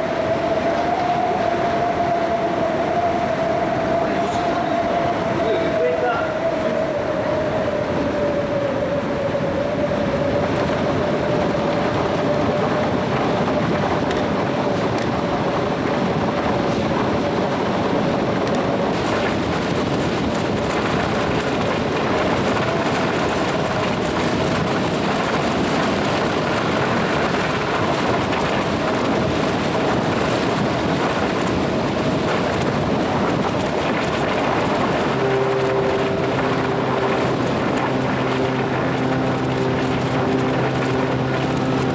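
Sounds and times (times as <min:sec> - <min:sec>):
faint steady whine: 0:00.0 - 0:16.6, 0:18.8 - 0:41.9
rushing wind: 0:00.0 - 0:41.9
ship engines rumbling: 0:00.0 - 0:41.9.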